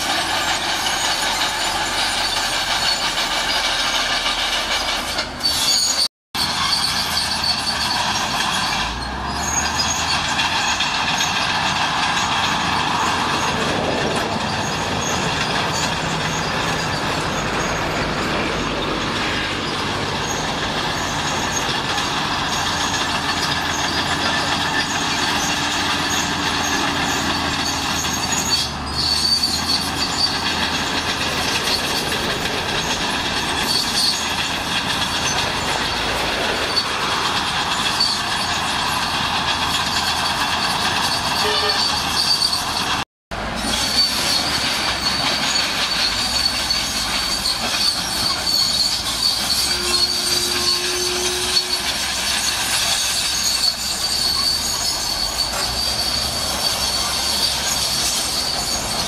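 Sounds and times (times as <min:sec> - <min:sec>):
diesel engine under load: 0:00.0 - 0:59.0
steel tracks clanking and squealing: 0:00.0 - 0:59.0.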